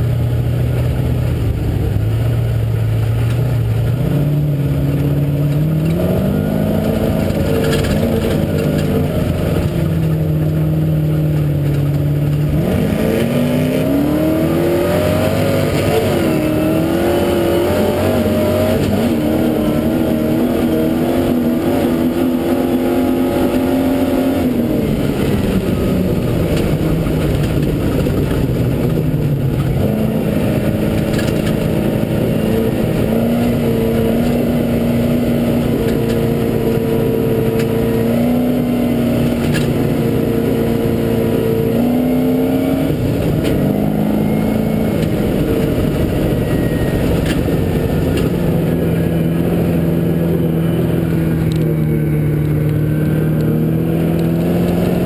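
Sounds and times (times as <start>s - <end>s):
continuous rushing noise: 0.0s - 55.0s
off-road vehicle engine accelerating: 0.0s - 55.0s.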